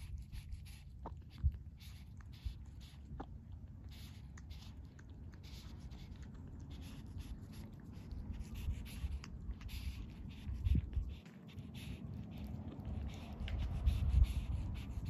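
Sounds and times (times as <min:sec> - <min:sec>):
kitten lapping milk: 0:00.0 - 0:15.0.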